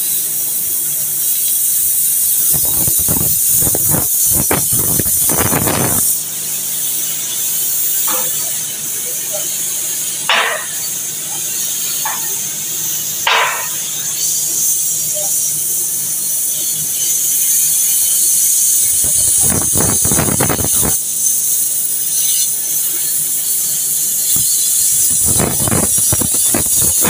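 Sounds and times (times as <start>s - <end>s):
cutting torch hissing: 0.0s - 27.0s.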